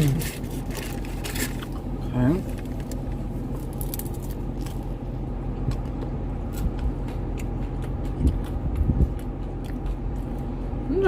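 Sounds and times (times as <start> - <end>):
person chewing food: 0.0 - 10.9
low hum: 0.0 - 11.0.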